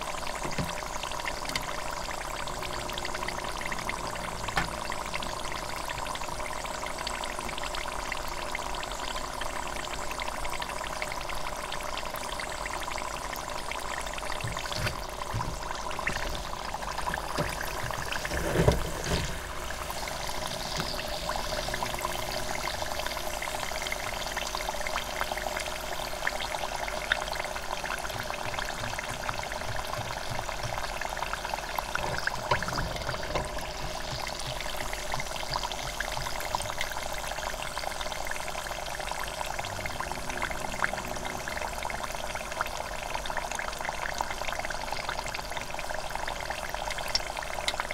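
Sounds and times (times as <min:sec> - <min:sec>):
oil bubbling and crackling: 0:00.0 - 0:47.9.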